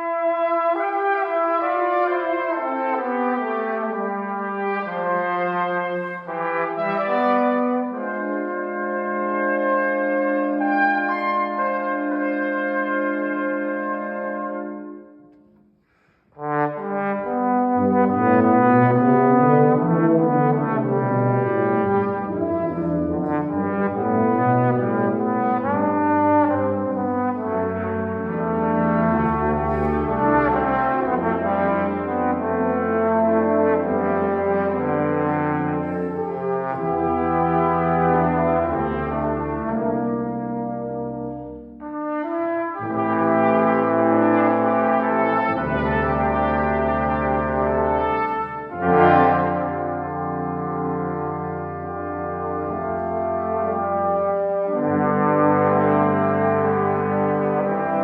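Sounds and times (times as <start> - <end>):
brass quintet playing: 0.0 - 15.6, 16.4 - 58.0.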